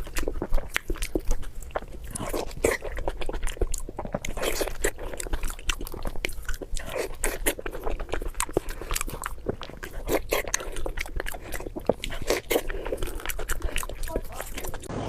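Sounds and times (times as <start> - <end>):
person chewing and biting: 0.0 - 14.9.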